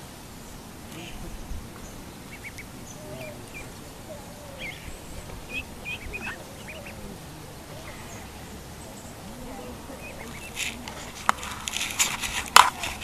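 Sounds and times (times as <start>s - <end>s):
low outdoor rumble: 0.0s - 13.0s
ducklings peeping: 0.4s - 13.0s.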